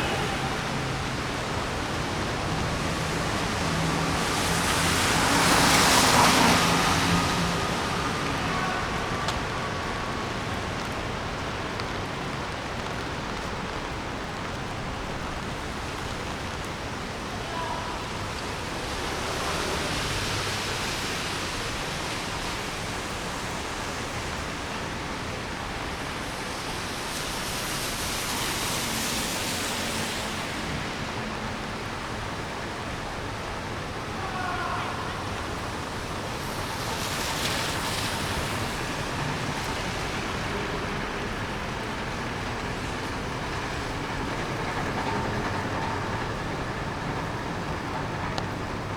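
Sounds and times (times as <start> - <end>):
rain on a wet street: 0.0 - 48.9
tyres hissing on wet road: 0.0 - 48.9.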